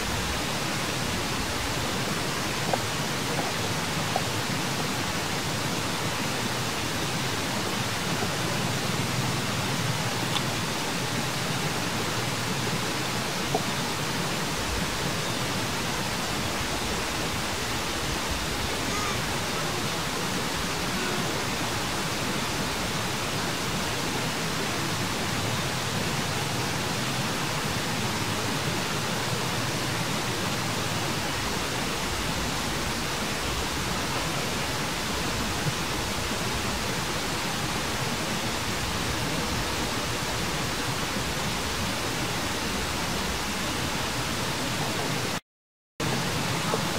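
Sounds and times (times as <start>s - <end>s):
steady hiss: 0.0s - 45.4s.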